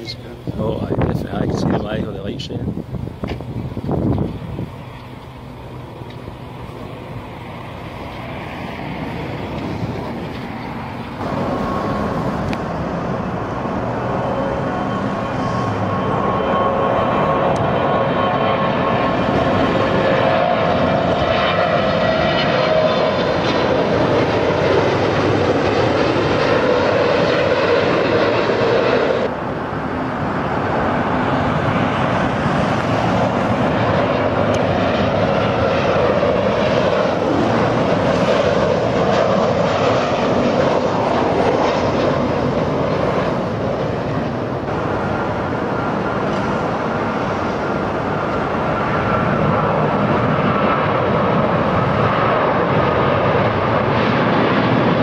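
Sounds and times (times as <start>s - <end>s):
airplane engines roaring: 0.0s - 55.0s
faint engine whine: 0.0s - 55.0s.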